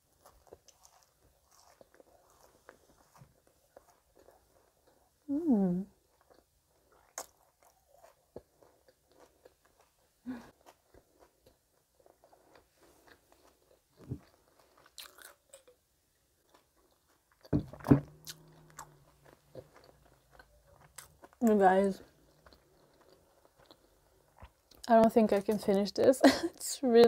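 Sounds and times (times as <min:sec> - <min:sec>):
close chewing: 0:00.0 - 0:15.7, 0:16.4 - 0:25.0.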